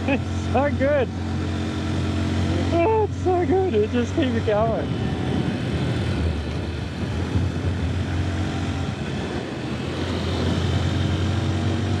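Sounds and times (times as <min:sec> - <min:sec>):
motorbike engine droning: 0:00.0 - 0:12.0
road and wind noise: 0:00.0 - 0:12.0.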